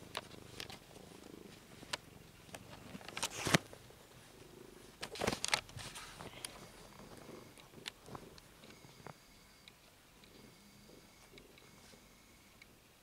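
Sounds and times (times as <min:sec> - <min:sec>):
cat purring: 0:00.0 - 0:05.0, 0:05.8 - 0:12.5.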